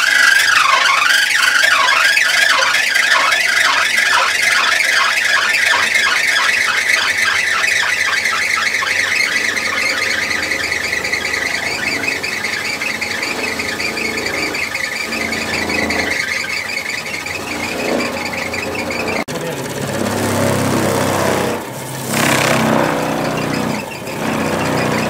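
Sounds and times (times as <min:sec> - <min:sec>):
ironing machine roller turning: 0:00.0 - 0:25.0
rhythmic ticking: 0:00.0 - 0:25.0.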